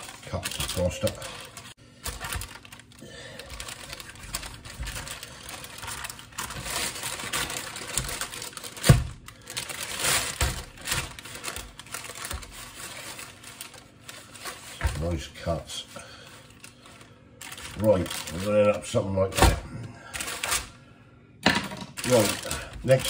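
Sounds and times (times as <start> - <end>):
parchment paper rustling and crinkling: 0.0 - 20.8, 22.0 - 23.0.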